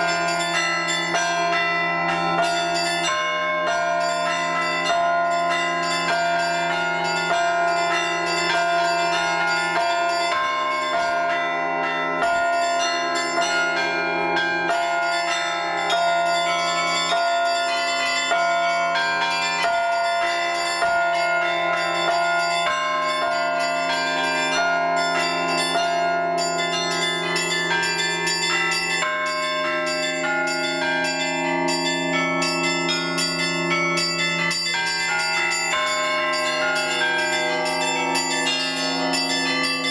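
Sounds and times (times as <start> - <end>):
deep bells ringing: 0.0 - 39.9
small bells struck quickly: 0.0 - 39.9.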